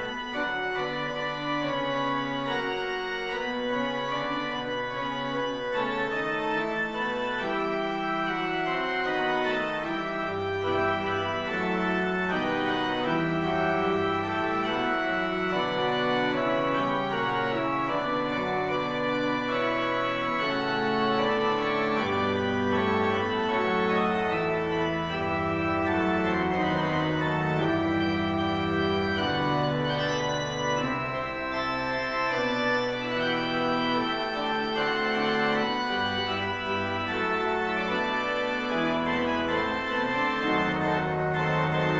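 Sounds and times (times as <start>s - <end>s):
organ chords: 0.0s - 41.9s.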